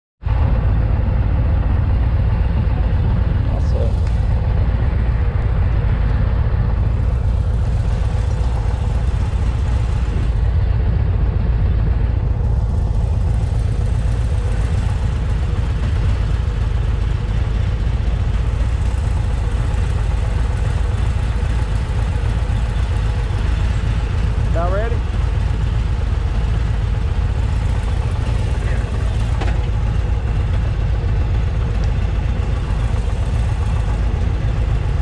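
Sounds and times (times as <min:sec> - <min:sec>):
motorcycle engine idling: 0:00.4 - 0:35.0.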